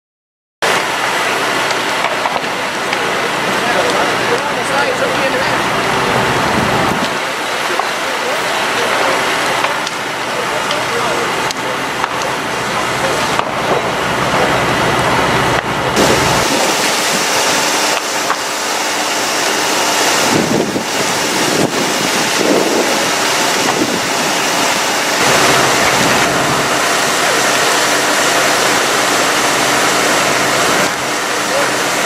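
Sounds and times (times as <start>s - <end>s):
fire engine running: 0.6s - 32.0s
water jet rushing: 0.6s - 32.0s.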